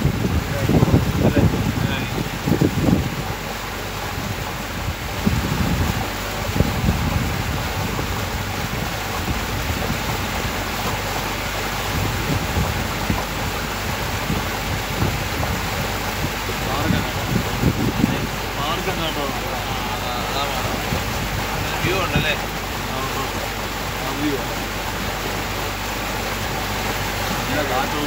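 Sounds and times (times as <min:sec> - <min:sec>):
boat under way on water: 0:00.0 - 0:28.0
wind buffeting microphone: 0:00.0 - 0:28.0.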